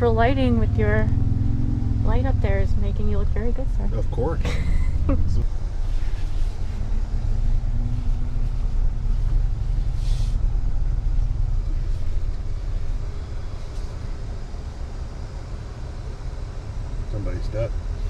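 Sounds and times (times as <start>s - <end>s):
pickup truck engine rumbling: 0.0s - 18.0s.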